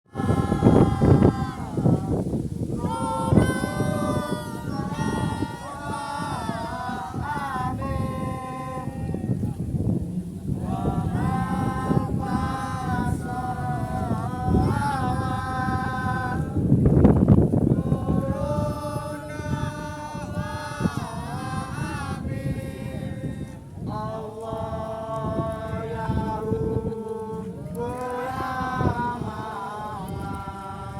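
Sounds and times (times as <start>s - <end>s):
voices singing a slow chant: 0.0s - 30.9s
wind on microphone: 0.0s - 30.9s.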